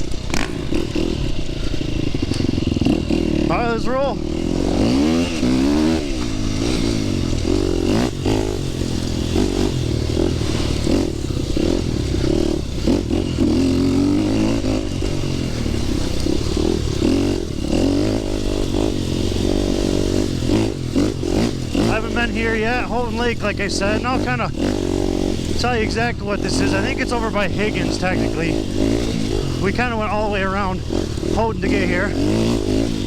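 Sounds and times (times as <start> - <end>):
bike knocking and rattling: 0.0 - 3.5, 4.3 - 33.0
dirt bike engine: 0.0 - 33.0.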